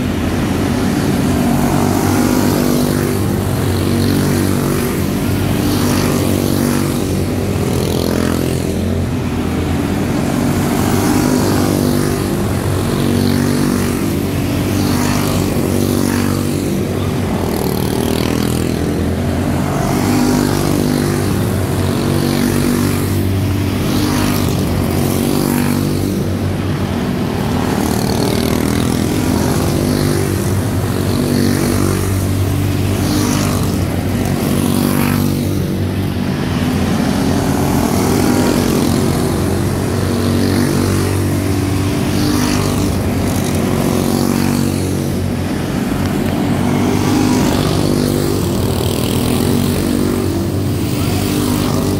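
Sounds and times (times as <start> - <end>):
race car engines buzzing: 0.0 - 51.9.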